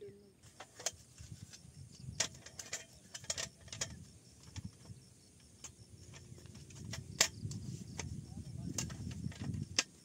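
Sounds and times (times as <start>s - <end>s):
light sharp clicks and clinks: 0.4s - 10.0s.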